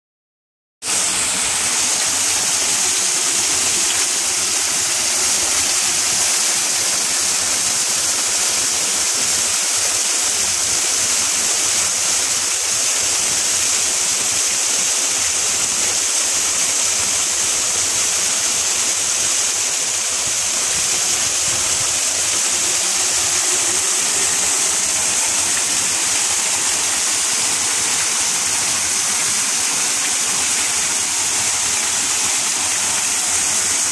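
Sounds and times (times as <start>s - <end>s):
waterfall splashing: 0.9s - 33.9s.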